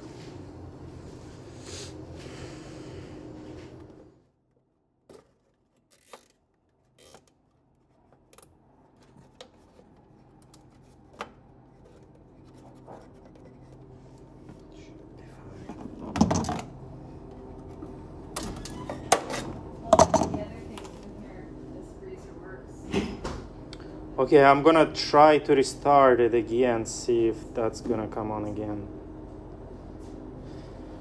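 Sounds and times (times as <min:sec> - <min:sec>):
condensing unit hum: 0:00.0 - 0:31.0.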